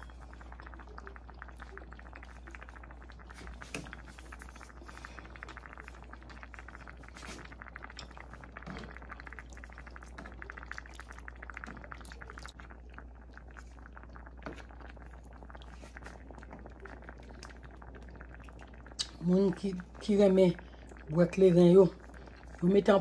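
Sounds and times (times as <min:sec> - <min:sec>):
stew bubbling in a pan: 0:00.0 - 0:23.0.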